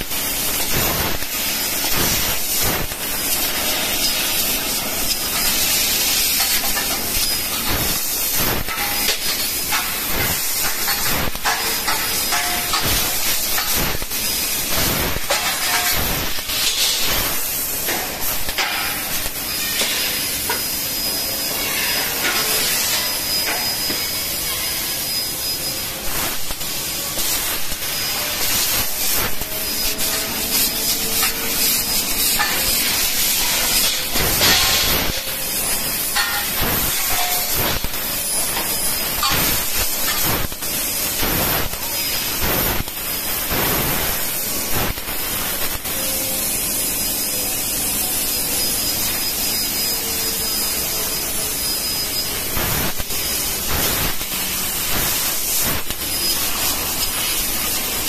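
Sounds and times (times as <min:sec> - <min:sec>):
laser cutting machine hissing: 0:00.0 - 0:58.0.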